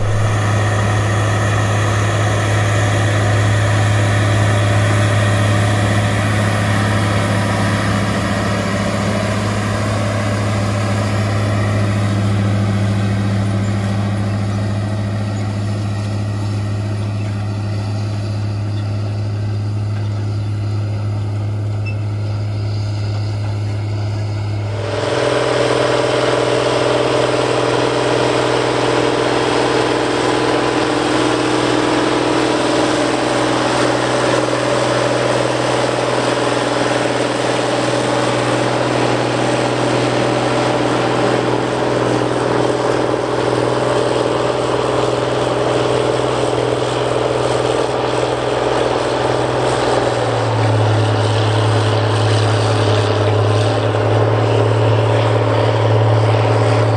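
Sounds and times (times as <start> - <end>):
diesel tractor running under load: 0.0 - 56.9.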